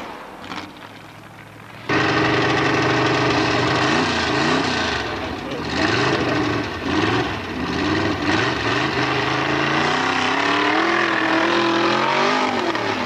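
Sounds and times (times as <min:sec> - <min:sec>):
buggy engine revving hard: 0:01.9 - 0:13.0.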